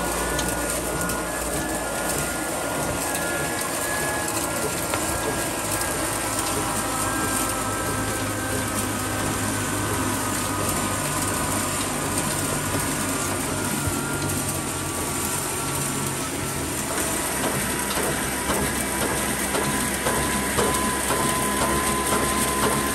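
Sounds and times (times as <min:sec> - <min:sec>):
diesel engine running: 0:00.0 - 0:22.9
flour mill grinder whine: 0:00.0 - 0:22.9.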